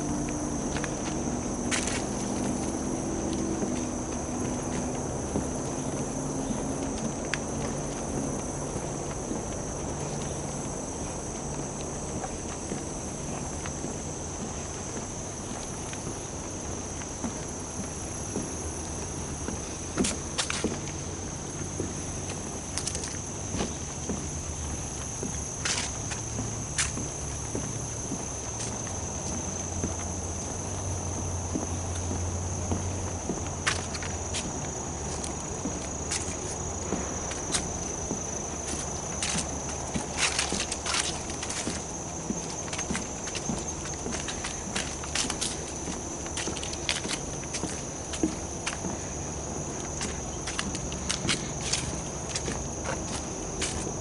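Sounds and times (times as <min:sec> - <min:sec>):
footsteps on a boardwalk: 0:00.0 - 0:54.0
insects droning: 0:00.0 - 0:54.0.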